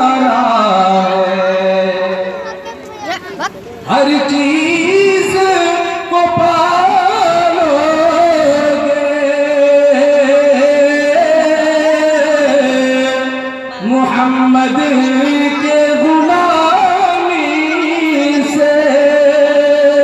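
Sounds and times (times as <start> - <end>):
man singing into a microphone: 0.0 - 2.7, 3.8 - 20.0.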